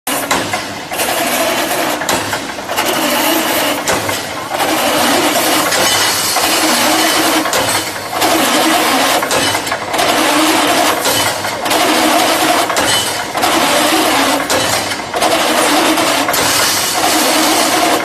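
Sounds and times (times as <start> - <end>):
welding machine running: 0.1 - 18.0.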